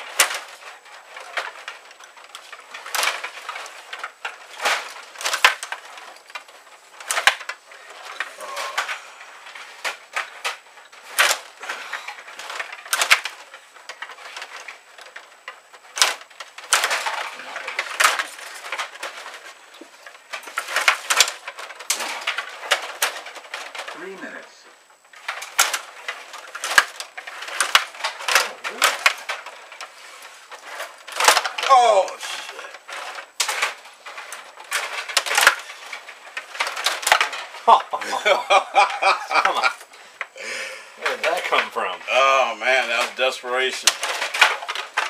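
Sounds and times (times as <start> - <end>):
control rods rattling: 0.0 - 40.3, 41.0 - 45.0
plastic pieces clacking: 0.0 - 45.0.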